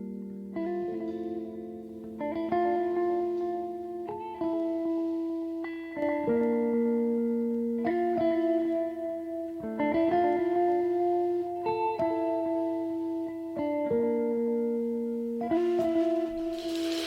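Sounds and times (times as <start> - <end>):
plucked guitar notes: 0.0 - 17.0.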